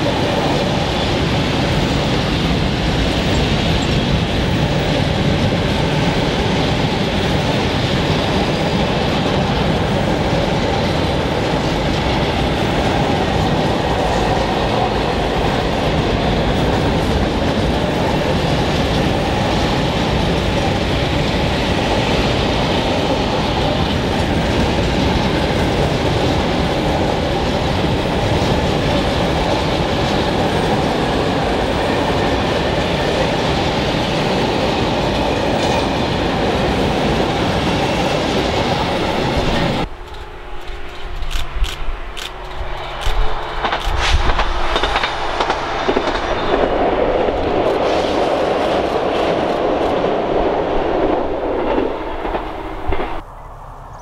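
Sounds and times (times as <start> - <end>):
steel wheels on rails: 0.0 - 54.0.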